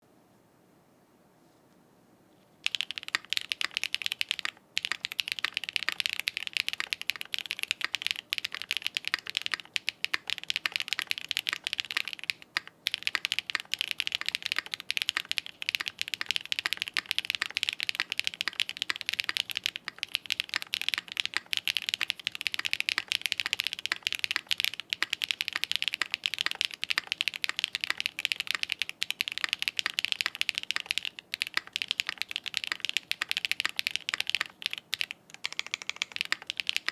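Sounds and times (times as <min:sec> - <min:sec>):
mechanical keyboard typing: 0:02.6 - 0:36.9.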